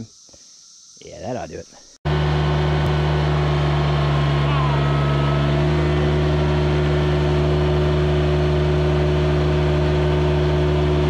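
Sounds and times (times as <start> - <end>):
engine running under load: 2.1 - 11.0.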